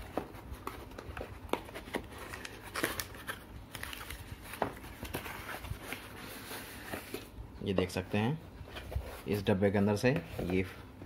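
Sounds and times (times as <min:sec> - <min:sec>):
cardboard and paper rustling: 0:00.0 - 0:10.8.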